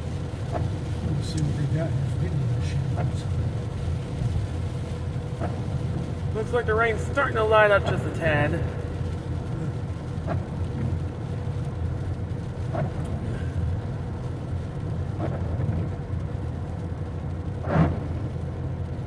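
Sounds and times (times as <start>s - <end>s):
car road and engine drone: 0.0s - 19.0s.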